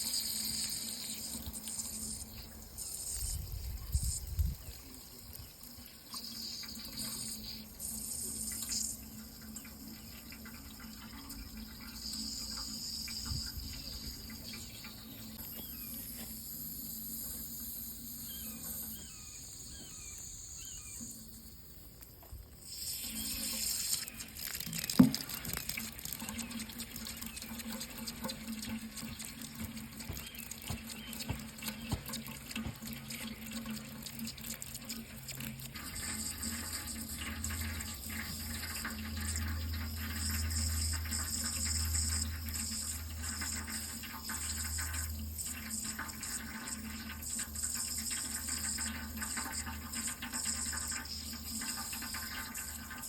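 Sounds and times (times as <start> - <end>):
tap water running into sink: 0.0 - 16.4, 22.2 - 53.0.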